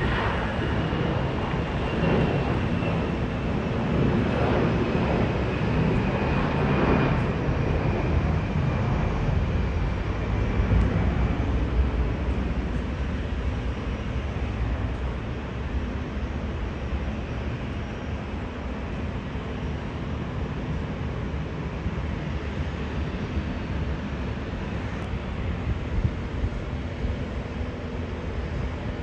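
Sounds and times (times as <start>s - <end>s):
jet airliner engines rumbling: 0.0s - 29.0s.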